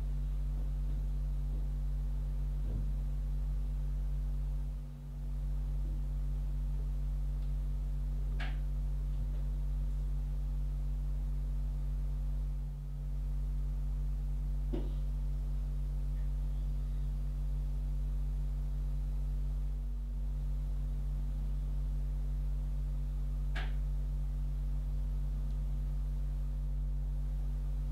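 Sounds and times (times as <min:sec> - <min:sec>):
low electrical hum: 0:00.0 - 0:27.9.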